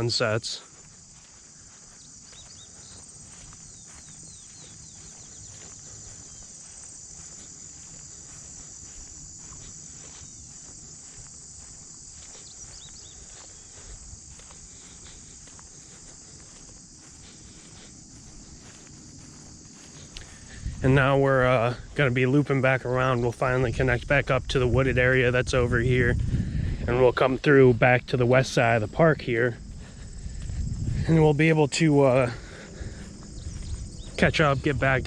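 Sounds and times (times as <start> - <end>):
high-pitched insect chorus: 0.0 - 35.0
soft footsteps on trail: 0.0 - 35.0.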